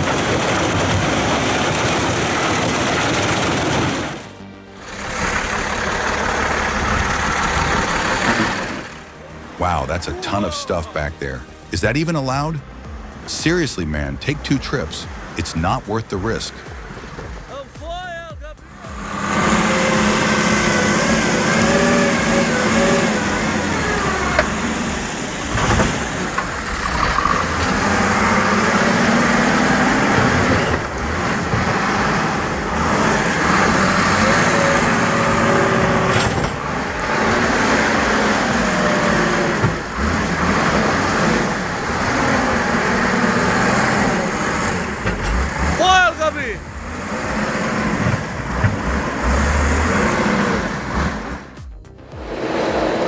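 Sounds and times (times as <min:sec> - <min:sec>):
vehicle engine running under load: 0:00.0 - 0:53.0.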